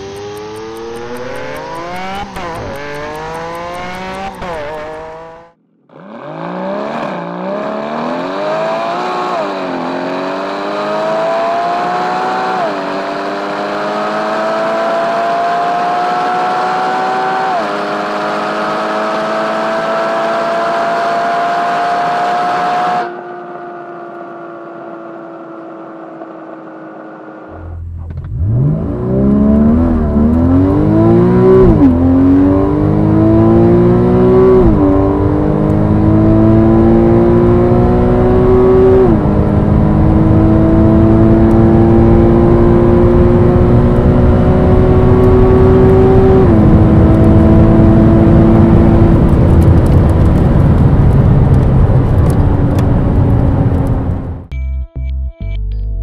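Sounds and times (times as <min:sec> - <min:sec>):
car engine at full throttle: 0:00.0 - 0:54.5.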